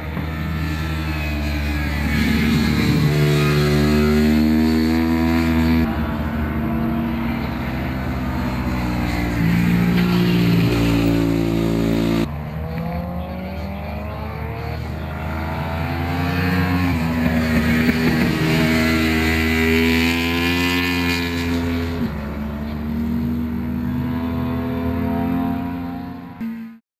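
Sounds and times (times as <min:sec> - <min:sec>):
racing motorcycle engines revving: 0:00.0 - 0:26.8.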